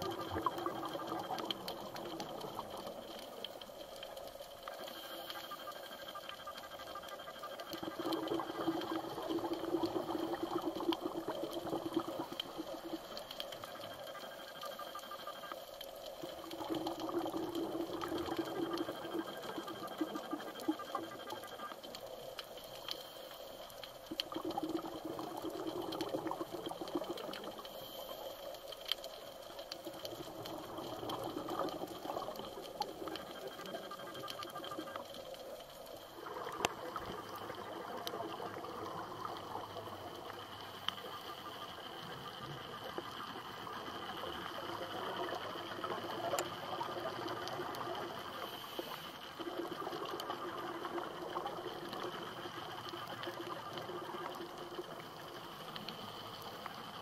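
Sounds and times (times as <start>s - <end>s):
faint clicks: 0.0s - 57.0s
muffled underwater water noise: 0.0s - 57.0s.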